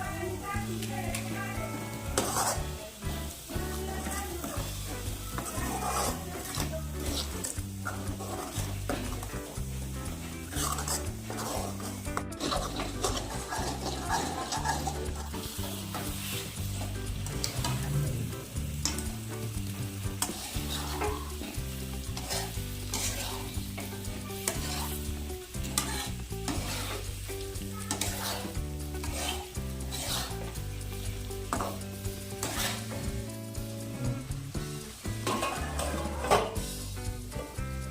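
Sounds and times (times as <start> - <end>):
chicken sizzling in a pan: 0.0 - 37.9
spatula scraping: 0.8 - 2.8, 3.6 - 33.2, 35.2 - 36.8.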